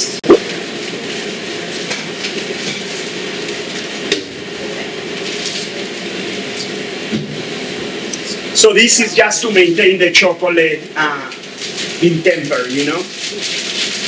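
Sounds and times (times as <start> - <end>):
mechanical hum with air rush: 0.0 - 14.0.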